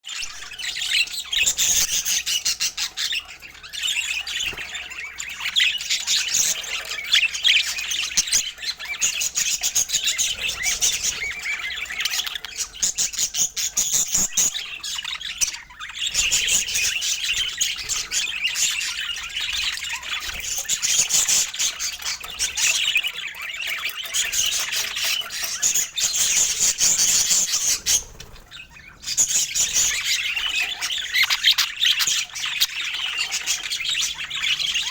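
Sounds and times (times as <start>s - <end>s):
budgerigars chattering: 0.2s - 34.9s.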